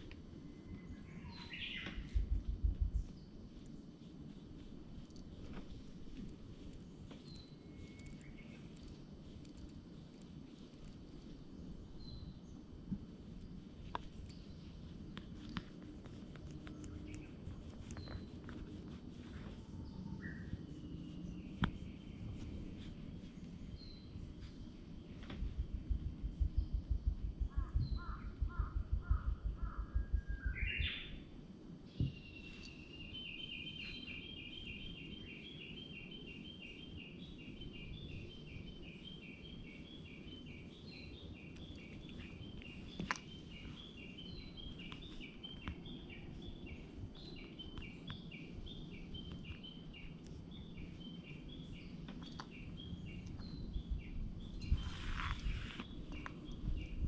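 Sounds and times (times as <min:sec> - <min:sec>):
outdoor ambience: 0:00.0 - 0:57.0.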